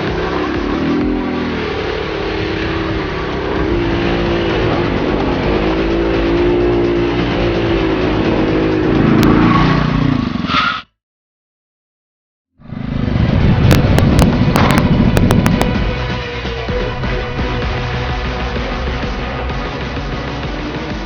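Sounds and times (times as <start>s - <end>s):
quad bike engine revving: 0.0s - 10.5s, 12.6s - 21.0s.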